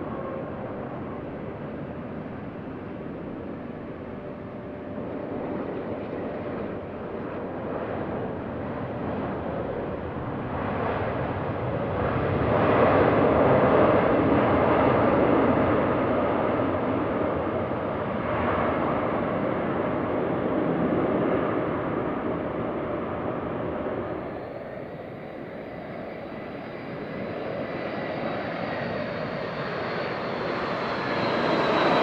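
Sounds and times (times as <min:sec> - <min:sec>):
jet airliner engines: 0:00.0 - 0:32.0.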